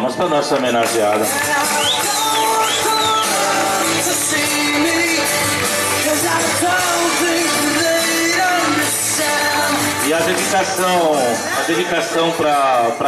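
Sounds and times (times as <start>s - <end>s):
pop song with vocals: 0.0s - 13.0s.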